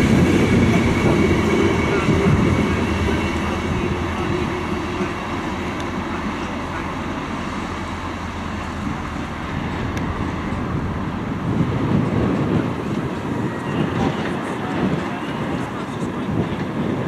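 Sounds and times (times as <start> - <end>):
wind noise on microphone: 0.0 - 5.7, 8.7 - 17.0
diesel locomotive drone: 0.0 - 17.0.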